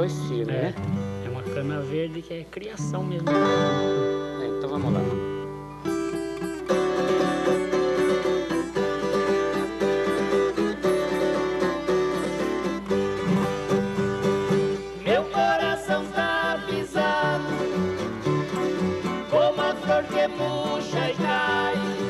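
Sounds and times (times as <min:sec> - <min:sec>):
acoustic guitar strumming: 0:00.0 - 0:22.0
viola caipira: 0:00.0 - 0:22.0.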